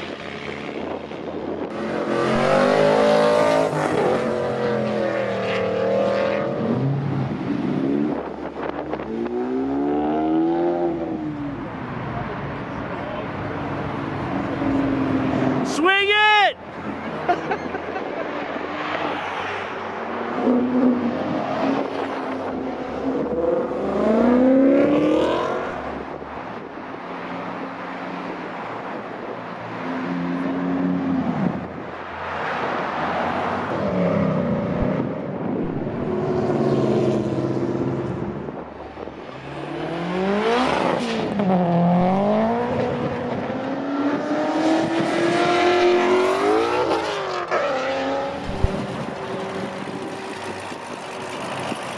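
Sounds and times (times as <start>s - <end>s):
cars accelerating past: 0.0s - 15.7s, 16.8s - 51.9s.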